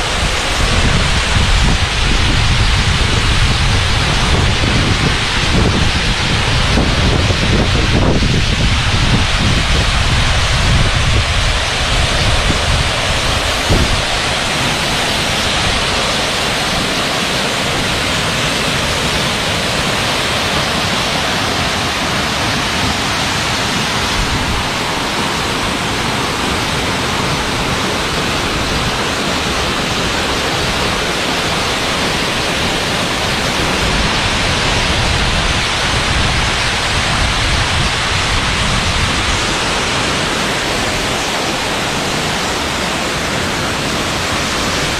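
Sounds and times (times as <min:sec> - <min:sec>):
waterfall rushing: 0:00.0 - 0:44.9
wind buffeting microphone: 0:00.0 - 0:44.9.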